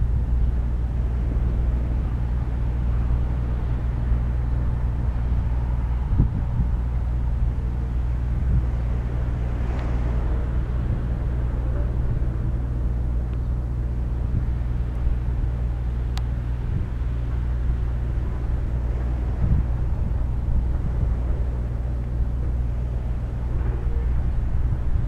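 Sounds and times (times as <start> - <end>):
ship engine drone: 0.0 - 25.0.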